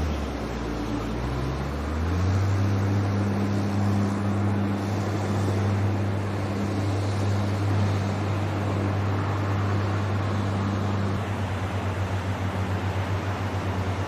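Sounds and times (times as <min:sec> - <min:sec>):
diesel engine droning: 0:00.0 - 0:14.0
waves breaking: 0:00.0 - 0:14.0.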